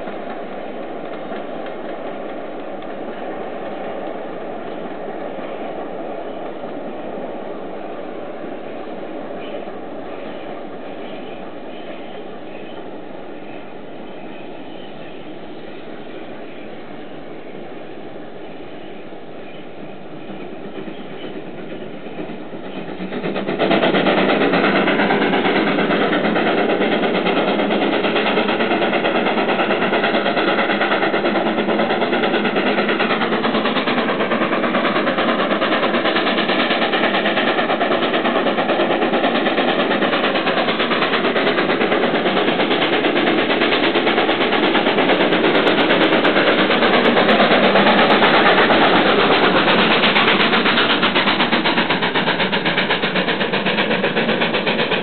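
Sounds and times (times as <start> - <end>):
steam train passing: 0.0 - 55.0.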